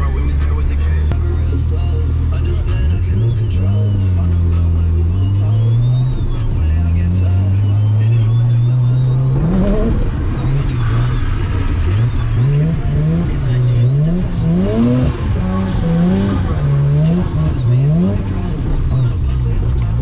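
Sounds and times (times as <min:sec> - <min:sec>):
high whine: 0:00.0 - 0:20.0
rotary engine revving hard: 0:00.0 - 0:20.0.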